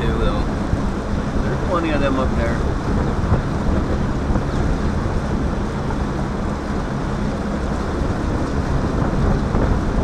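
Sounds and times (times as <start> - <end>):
boat motor droning: 0.0 - 10.0
wind buffeting microphone: 0.0 - 10.0.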